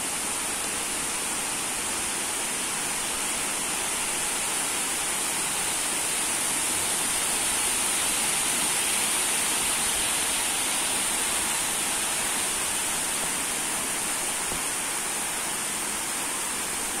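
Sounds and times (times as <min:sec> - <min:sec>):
heavy rain on leaves: 0:00.2 - 0:17.0.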